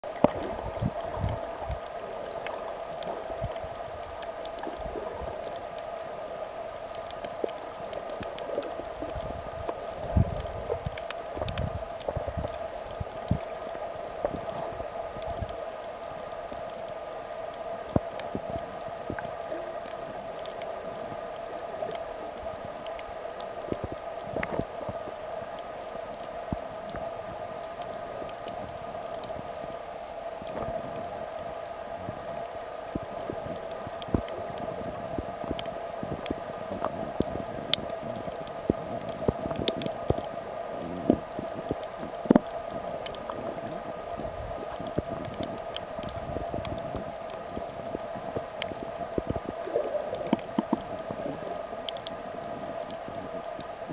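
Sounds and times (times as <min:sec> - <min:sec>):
crackle of fine clicks: 0:00.0 - 0:53.9.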